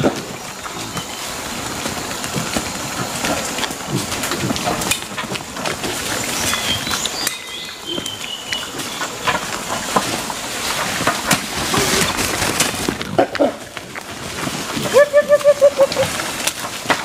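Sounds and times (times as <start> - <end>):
rustling of leafy undergrowth: 0.0 - 17.0.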